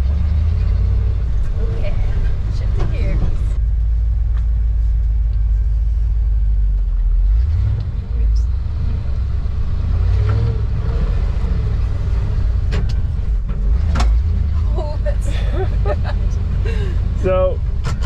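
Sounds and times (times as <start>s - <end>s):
truck engine rumble: 0.0s - 18.0s.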